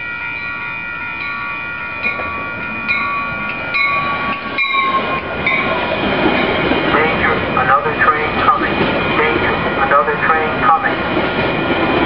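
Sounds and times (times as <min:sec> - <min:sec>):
crossing bell ringing: 0:00.0 - 0:12.0
train wheels on rails rushing past: 0:00.3 - 0:12.0.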